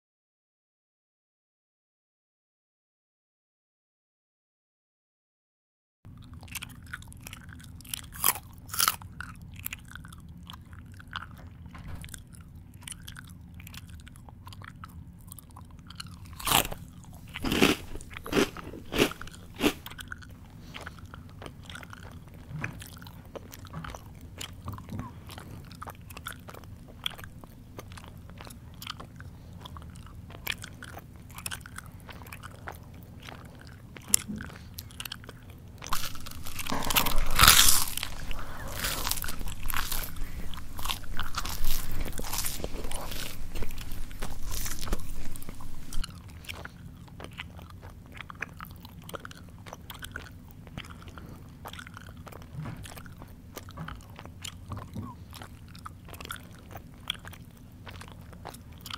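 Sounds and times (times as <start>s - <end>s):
faint low hum: 6.1s - 58.9s
person chewing crunchy food: 6.1s - 58.9s.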